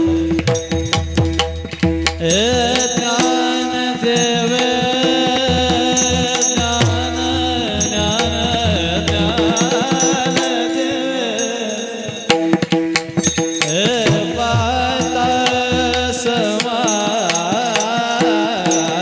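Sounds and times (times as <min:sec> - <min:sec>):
voices singing devotional melody: 0:00.0 - 0:19.0.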